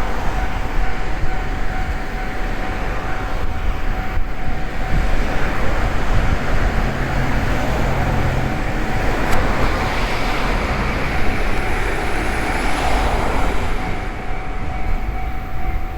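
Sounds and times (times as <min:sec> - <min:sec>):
crossing warning bell: 0:00.0 - 0:15.9
train wheels rumbling: 0:00.0 - 0:15.9.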